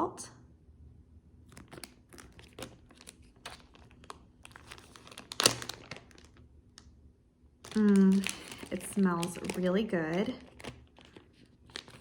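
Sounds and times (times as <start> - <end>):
packaging crinkling: 1.4 - 7.0, 7.6 - 12.0.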